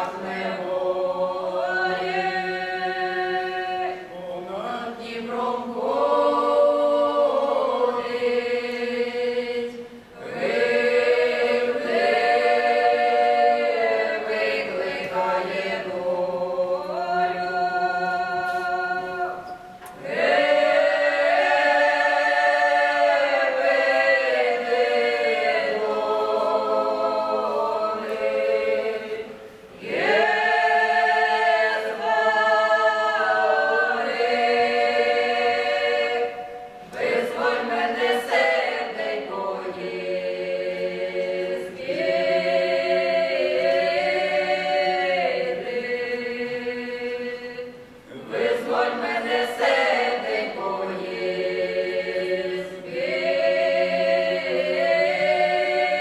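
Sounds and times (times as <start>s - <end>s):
men and women singing a cappella: 0.0s - 56.0s.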